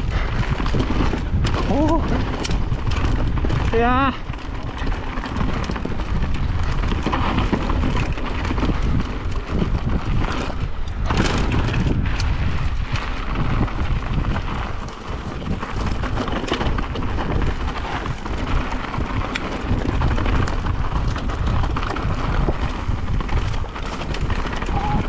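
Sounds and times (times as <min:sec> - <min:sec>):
bike rattling and knocking: 0:00.0 - 0:25.0
bike tyres crunching over gravel: 0:00.0 - 0:25.0
steady low rumble: 0:00.0 - 0:25.0.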